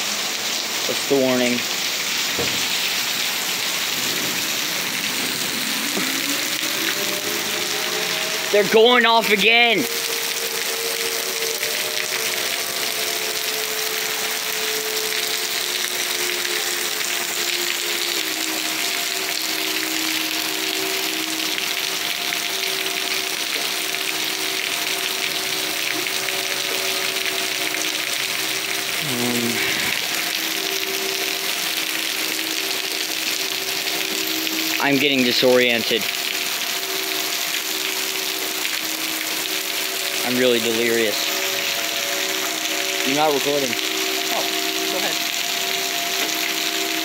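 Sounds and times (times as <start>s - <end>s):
heavy rain hissing: 0.0s - 47.0s
tornado warning sirens: 2.9s - 47.0s.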